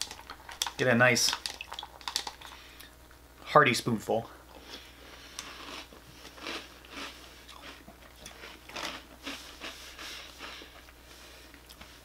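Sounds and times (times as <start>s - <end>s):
person chewing crunchy cereal: 0.0s - 2.9s, 4.5s - 12.0s.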